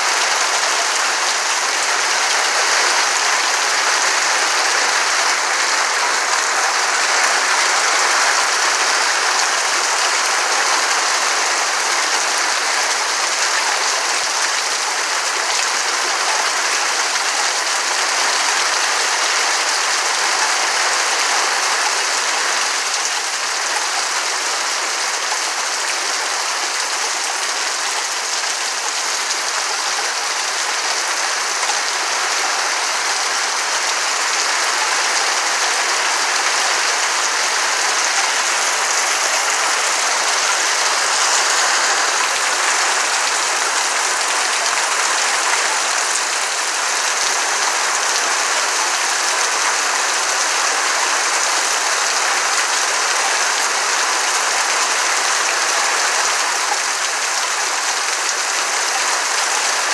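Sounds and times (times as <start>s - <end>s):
heavy rain on trees: 0.0s - 59.9s.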